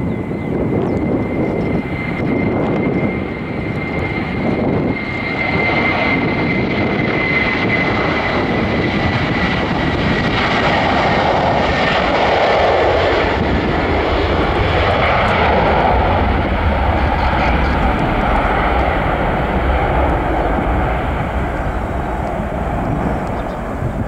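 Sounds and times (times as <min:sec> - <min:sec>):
jet engine rush: 0:00.0 - 0:24.0.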